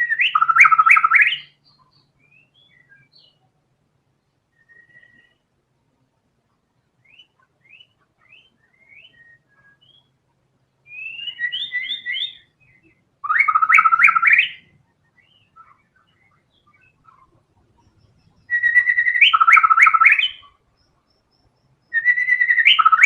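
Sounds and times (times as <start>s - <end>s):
bird singing whistles and trills: 0.0s - 3.5s, 4.5s - 5.4s, 7.0s - 10.2s, 10.8s - 23.0s.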